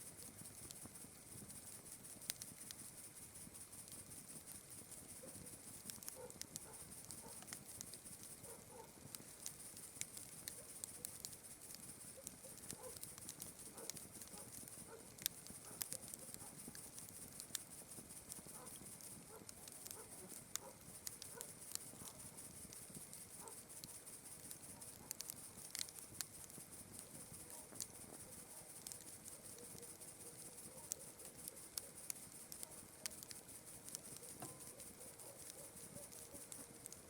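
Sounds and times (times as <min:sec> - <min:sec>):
campfire crackling and popping: 0:00.0 - 0:37.0
night insects chirring: 0:00.0 - 0:37.0.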